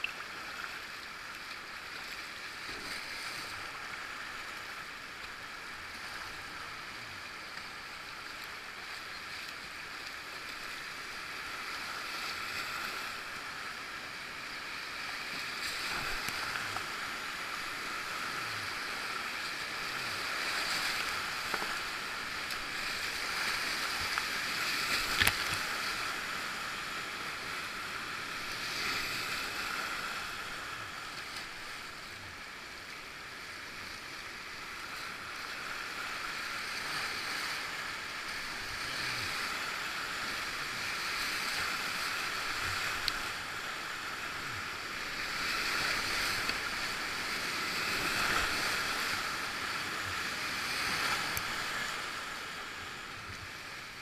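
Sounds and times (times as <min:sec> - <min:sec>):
whitewater river rushing: 0:00.0 - 0:33.4, 0:34.1 - 0:54.0.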